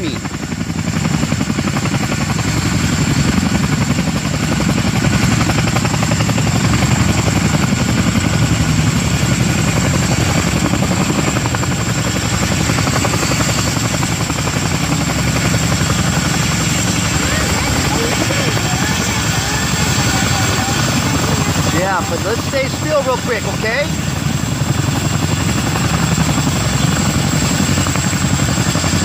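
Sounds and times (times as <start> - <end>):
helicopter rotors chopping: 0.0 - 29.0.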